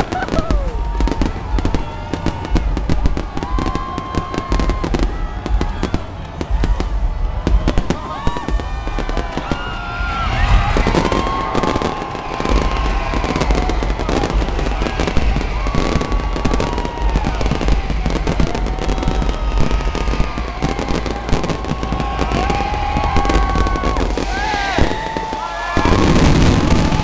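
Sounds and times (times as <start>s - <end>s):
firework whistles: 0.0s - 27.0s
fireworks crackling and bursting: 0.0s - 27.0s.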